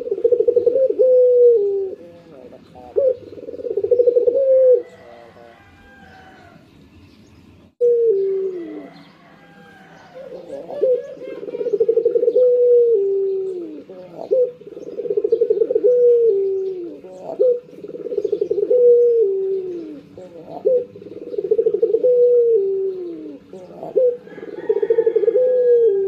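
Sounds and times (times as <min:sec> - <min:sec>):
dove cooing: 0:00.0 - 0:06.6, 0:07.8 - 0:26.0.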